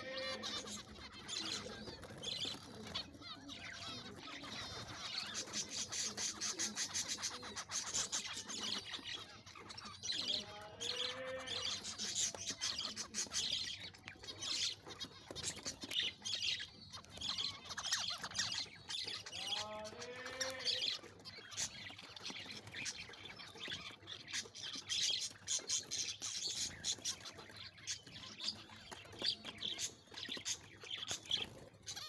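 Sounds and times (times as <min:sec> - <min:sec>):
finches calling and chirping: 0:00.0 - 0:32.0.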